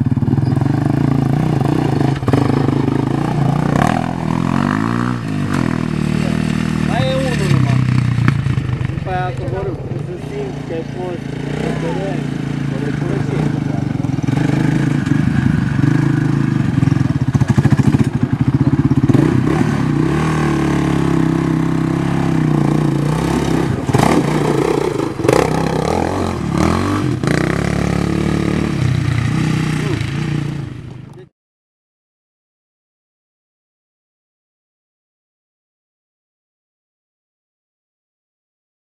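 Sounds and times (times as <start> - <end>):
quad engine revving: 0.0 - 31.3.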